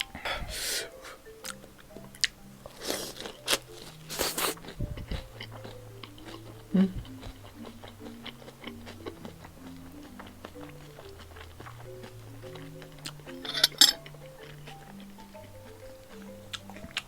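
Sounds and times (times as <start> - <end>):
mouth clicks: 0.0 - 17.0
chewing with wet crunches: 1.2 - 17.0.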